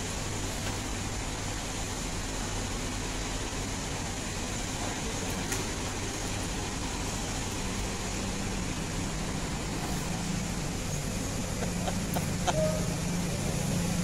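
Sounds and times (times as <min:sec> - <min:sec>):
machine humming with hiss: 0:00.0 - 0:14.0.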